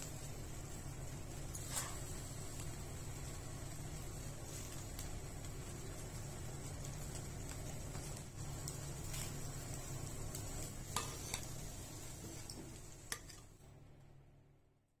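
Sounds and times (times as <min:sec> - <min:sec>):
gas burner running: 0:00.0 - 0:14.6.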